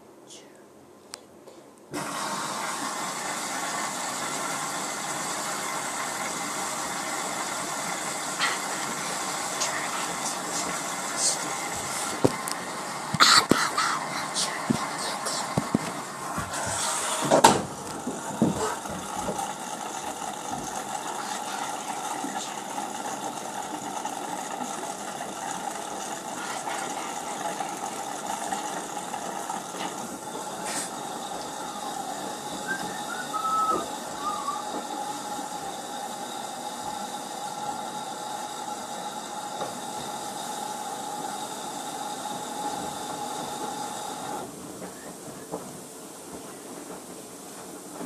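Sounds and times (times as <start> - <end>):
washing machine drum whirring: 1.9 - 48.0.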